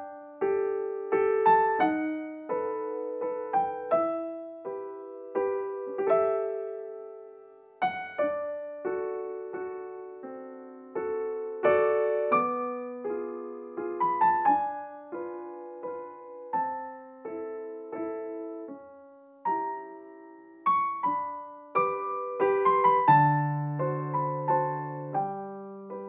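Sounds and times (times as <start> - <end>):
gentle piano piece: 0.0 - 26.0.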